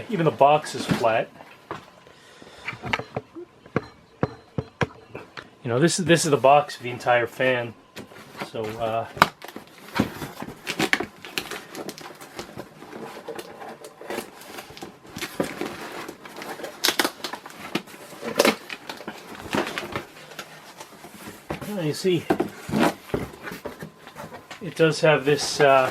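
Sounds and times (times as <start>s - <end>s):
cardboard rustling and scraping: 0.0s - 1.9s, 6.0s - 25.9s.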